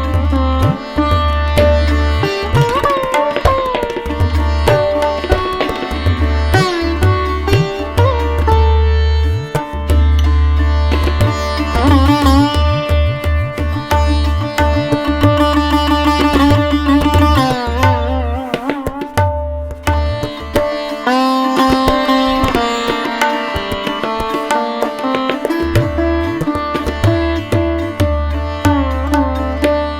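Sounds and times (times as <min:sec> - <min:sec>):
percussion: 0:00.0 - 0:29.9
plucked string melody: 0:00.0 - 0:29.9.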